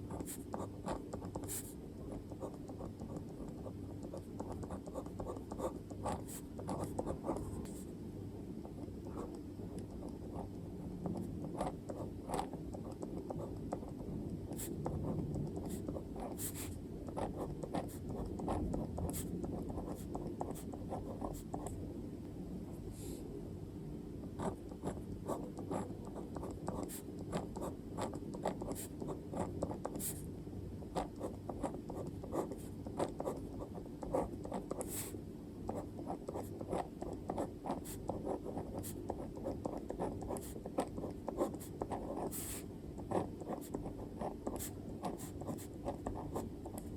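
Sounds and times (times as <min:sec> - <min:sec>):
pen scratching on paper: 0:00.0 - 0:07.9, 0:08.6 - 0:21.7, 0:24.4 - 0:30.2, 0:30.8 - 0:46.9.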